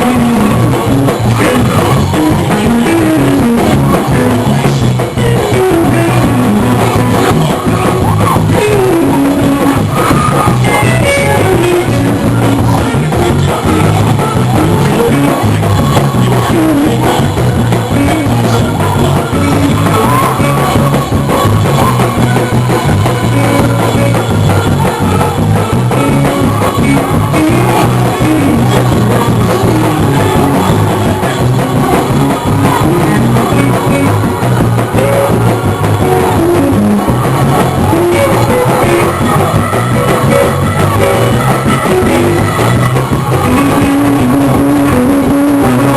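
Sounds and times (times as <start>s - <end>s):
live church music with bass and drums: 0.0s - 45.9s
person singing or shouting: 0.0s - 45.9s.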